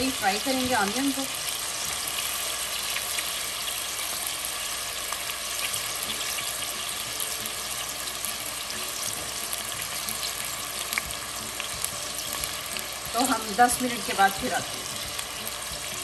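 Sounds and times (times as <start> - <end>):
meat and onions sizzling in oil: 0.0 - 16.0.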